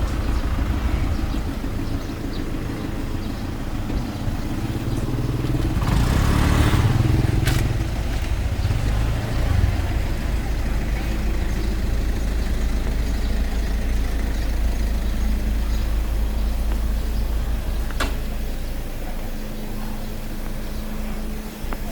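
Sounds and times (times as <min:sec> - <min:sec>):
motorbike engine rumbling: 0:00.0 - 0:21.9.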